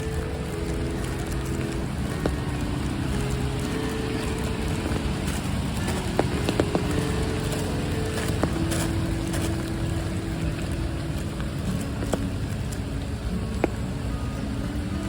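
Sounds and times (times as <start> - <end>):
rain falling: 0.0 - 15.0
sharp raindrop hits: 0.0 - 15.0
soft background music: 0.0 - 15.0.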